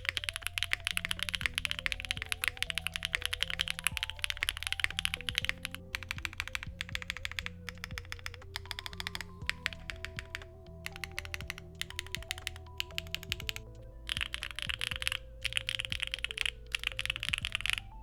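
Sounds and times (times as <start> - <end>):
fast typing on mechanical keyboard: 0.0 - 18.0
soft background music: 0.0 - 18.0.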